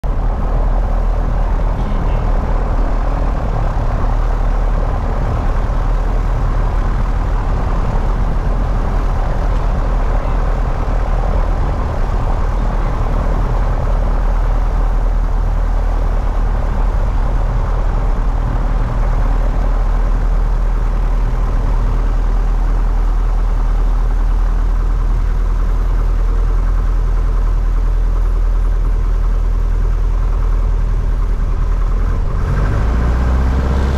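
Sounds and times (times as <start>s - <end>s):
light aircraft engine and propeller: 0.0s - 33.9s.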